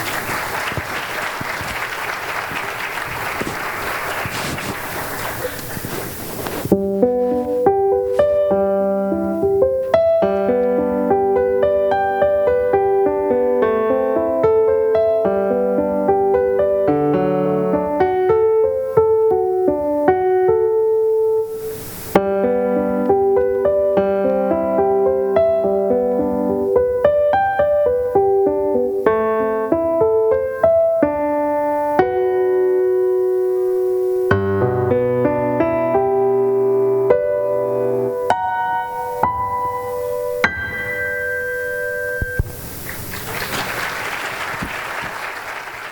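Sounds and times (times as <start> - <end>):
solo piano melody: 0.0 - 43.4.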